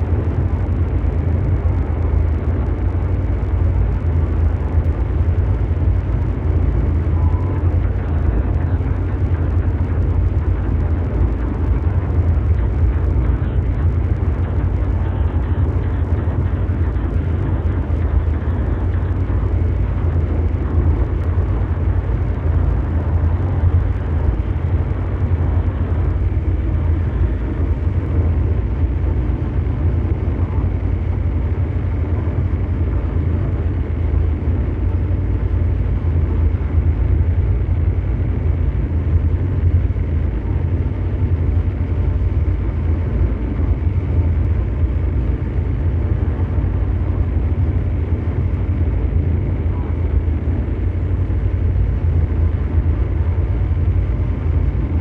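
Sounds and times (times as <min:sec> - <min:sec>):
mechanical rumbling drone: 0:00.0 - 0:55.0.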